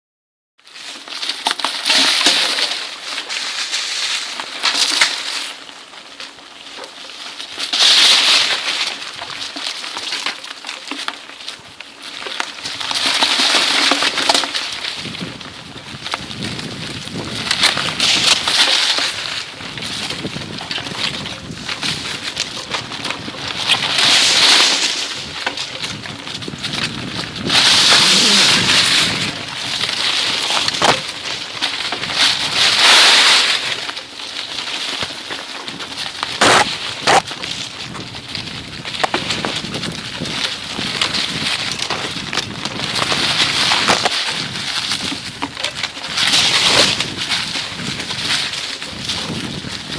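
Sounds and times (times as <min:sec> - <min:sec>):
bicycle tyres on dirt trail: 0:00.6 - 0:49.9.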